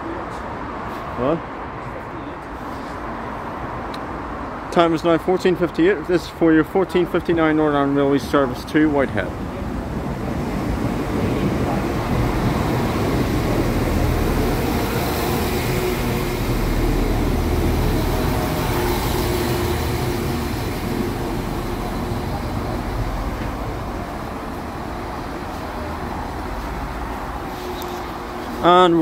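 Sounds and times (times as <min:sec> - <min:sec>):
diesel train pulling in: 0:04.2 - 0:29.0.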